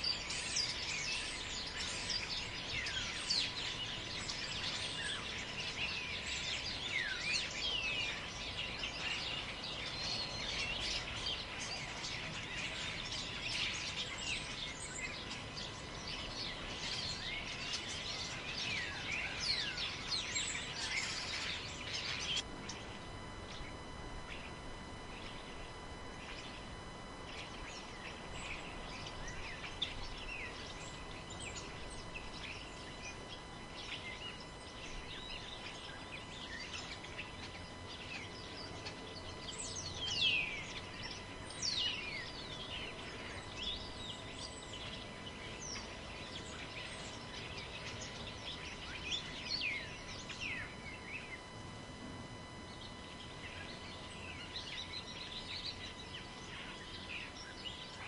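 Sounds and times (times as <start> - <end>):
small birds chirping: 0.0 - 58.0
wind through trees: 0.0 - 58.0.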